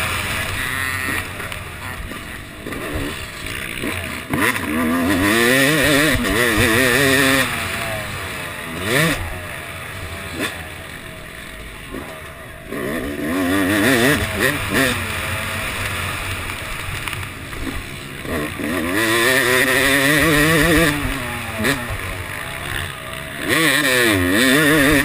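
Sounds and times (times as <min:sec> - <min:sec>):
motocross engine revving: 0:00.0 - 0:25.0.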